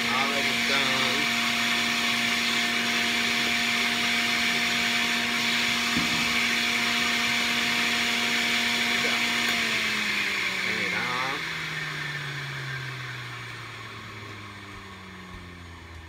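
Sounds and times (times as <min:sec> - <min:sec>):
juicer motor humming: 0:00.0 - 0:16.0.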